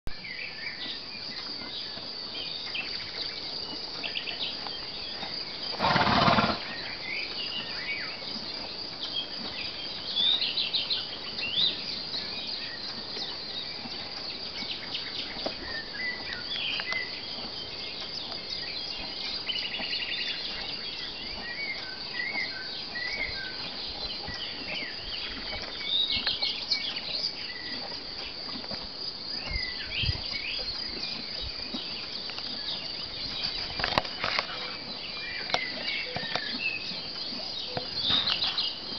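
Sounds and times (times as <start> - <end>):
songbirds chirping: 0.1 - 38.9
high insect drone: 0.2 - 38.9.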